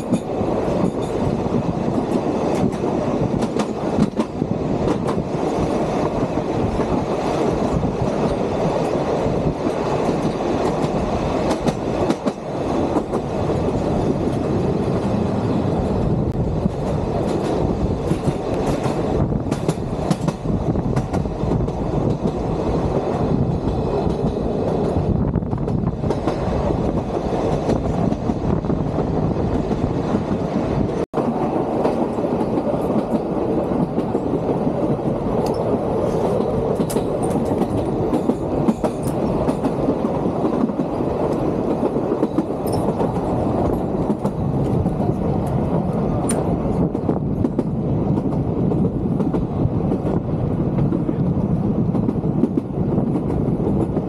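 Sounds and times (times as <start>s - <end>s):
clicks of train wheels: 0.0s - 15.4s, 16.3s - 22.5s, 23.4s - 28.5s, 29.5s - 54.0s
train wheels rumbling on rails: 0.0s - 54.0s.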